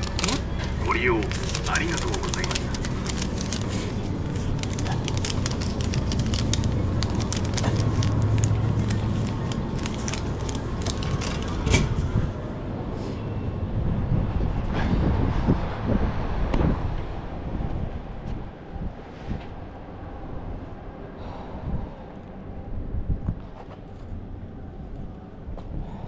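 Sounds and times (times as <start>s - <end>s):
low vehicle hum: 0.0s - 26.0s.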